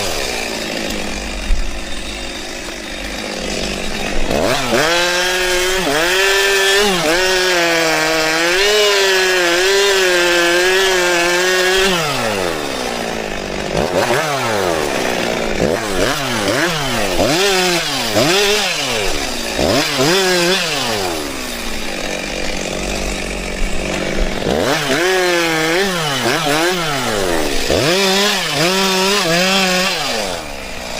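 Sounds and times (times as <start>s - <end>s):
chainsaw running and revving: 0.0s - 30.9s.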